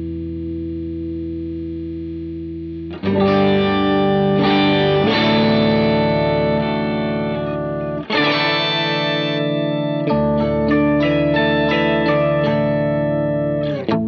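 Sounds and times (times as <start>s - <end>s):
electric guitar chords ringing: 0.0s - 14.0s.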